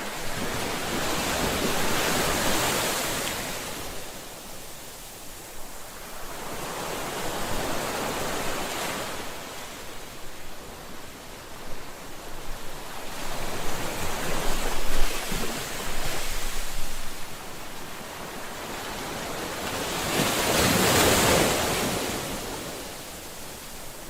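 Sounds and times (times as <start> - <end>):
ocean waves breaking on shore: 0.0 - 24.0.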